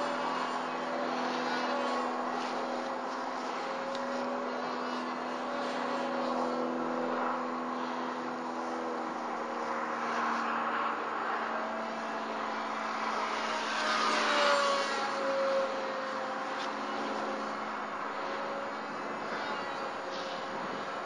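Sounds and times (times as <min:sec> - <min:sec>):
model airplane motor whining: 0:00.0 - 0:21.0.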